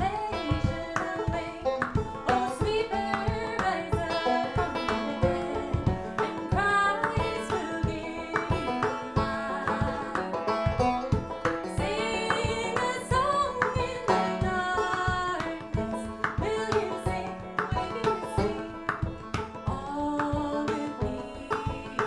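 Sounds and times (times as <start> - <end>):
banjo picking: 0.0 - 22.0
hand drum strikes: 0.0 - 22.0
woman singing: 0.0 - 22.0.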